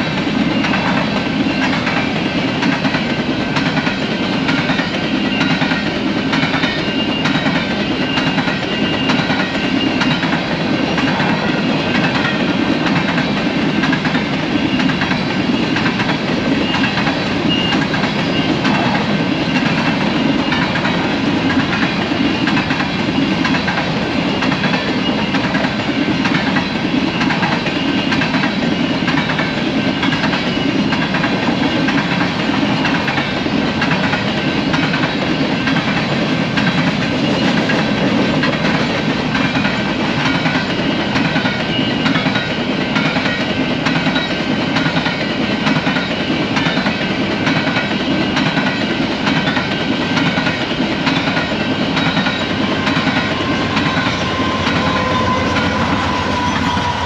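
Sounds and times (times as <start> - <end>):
train wheels on rails clacking: 0.0 - 57.0.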